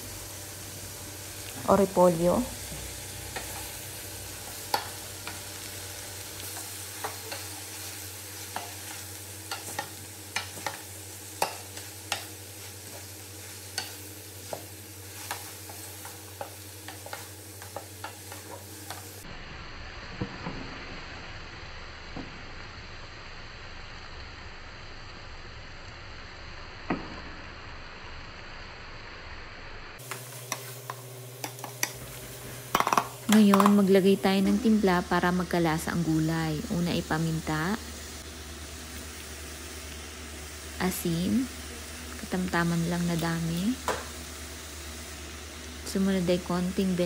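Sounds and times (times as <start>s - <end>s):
vegetables sizzling: 0.0s - 47.0s.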